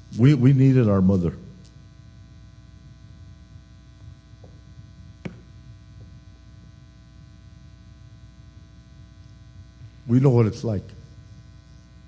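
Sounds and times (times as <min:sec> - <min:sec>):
electrical buzz and hum: 0:00.0 - 0:12.0.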